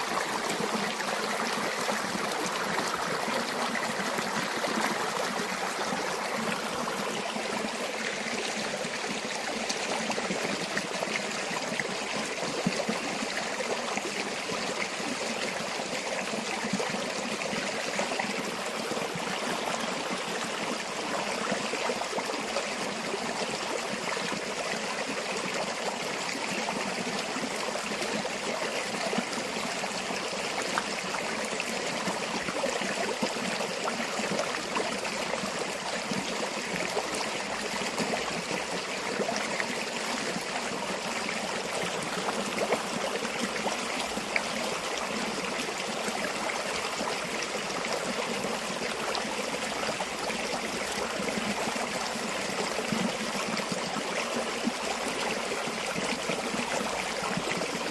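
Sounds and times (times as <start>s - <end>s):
stream water splashing over stones: 0.0s - 57.9s.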